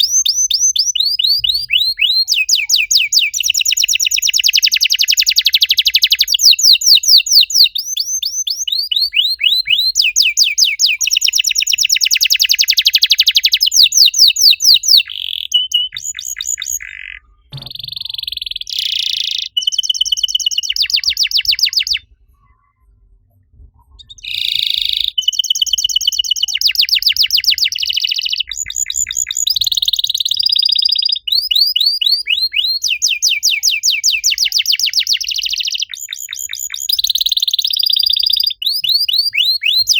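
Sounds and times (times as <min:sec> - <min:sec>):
canary singing trills: 0:00.0 - 0:22.8, 0:23.9 - 0:39.9.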